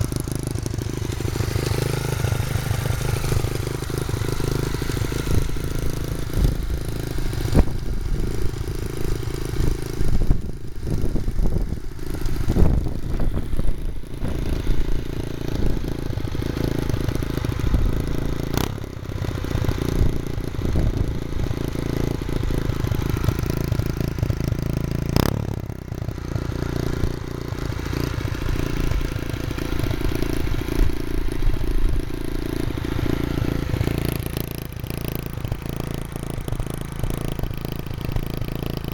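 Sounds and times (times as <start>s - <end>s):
small motorbike engine running: 0.0s - 38.9s.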